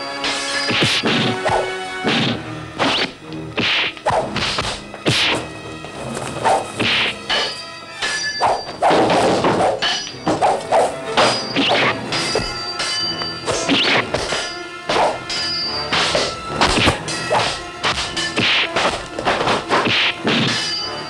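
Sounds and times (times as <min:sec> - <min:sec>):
sword blades clashing: 0:00.1 - 0:05.5, 0:06.4 - 0:21.0
sword swishing: 0:00.2 - 0:20.8
thuds of blows: 0:00.3 - 0:07.6, 0:08.6 - 0:20.8.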